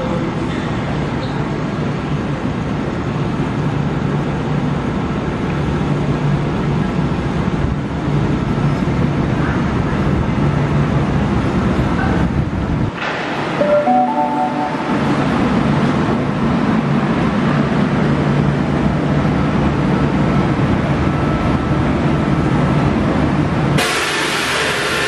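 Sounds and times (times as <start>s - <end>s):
train motors humming: 0.0s - 24.7s.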